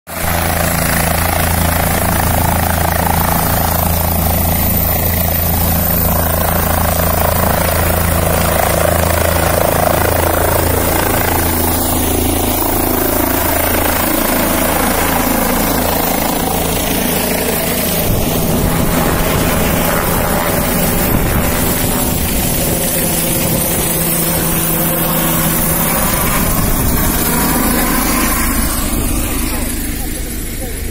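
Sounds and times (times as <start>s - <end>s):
helicopter rotor drone: 0.1s - 30.9s.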